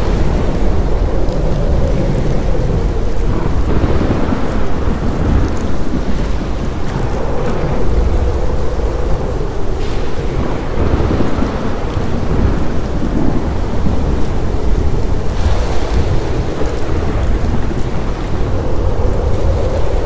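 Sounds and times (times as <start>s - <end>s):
heavy rain: 0.0s - 20.0s
low thunder rumbling: 0.0s - 20.0s.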